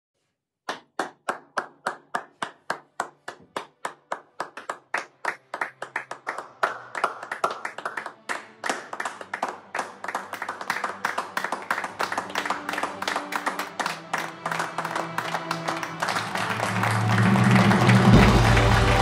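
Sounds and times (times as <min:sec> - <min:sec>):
hand clapping: 0:00.6 - 0:19.0.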